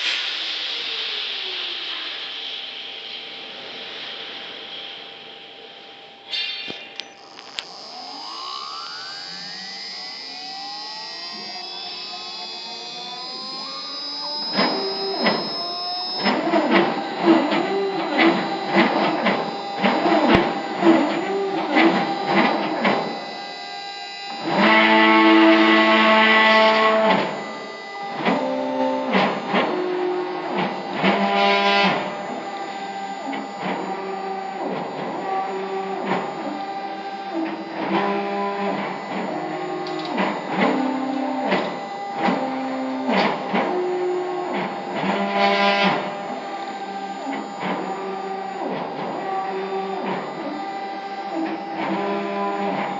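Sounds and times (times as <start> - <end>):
stepper motors whining: 0.0 - 52.9.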